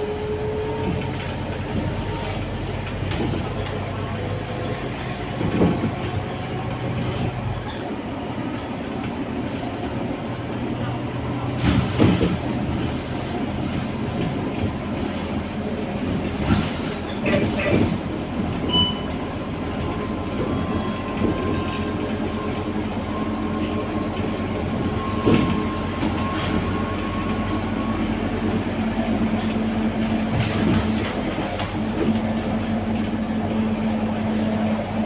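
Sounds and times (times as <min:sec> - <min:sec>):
bus engine and road rumble: 0:00.0 - 0:35.0.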